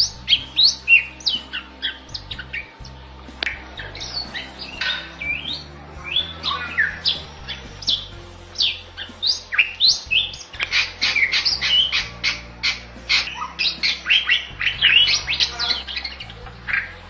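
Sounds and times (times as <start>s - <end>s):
bird singing whistled notes: 0.0s - 17.0s.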